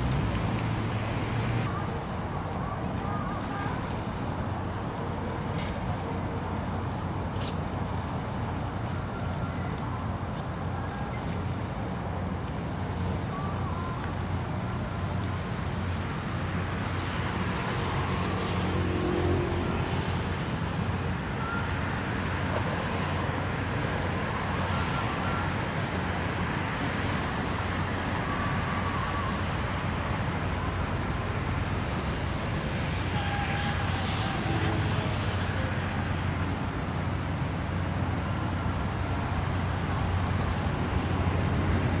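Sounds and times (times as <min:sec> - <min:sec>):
road traffic hum: 0:00.0 - 0:42.0.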